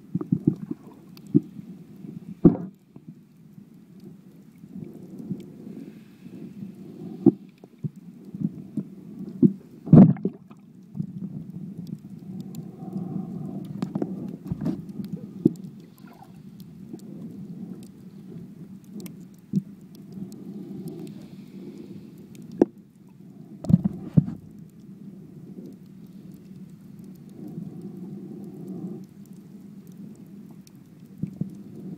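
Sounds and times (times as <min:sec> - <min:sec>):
muffled underwater rumble: 0:00.0 - 0:31.9.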